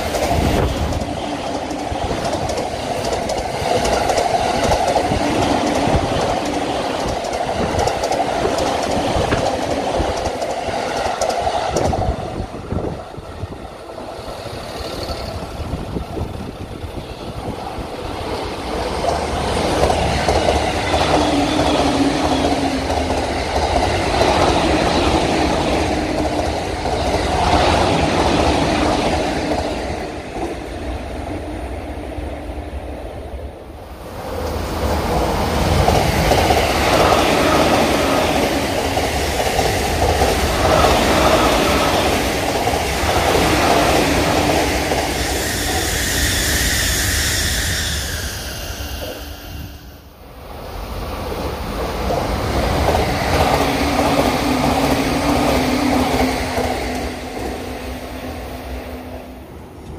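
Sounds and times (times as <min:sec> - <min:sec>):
train wheels on rails: 0:00.0 - 0:32.8, 0:33.5 - 0:59.9
electric train passing: 0:00.0 - 0:59.9.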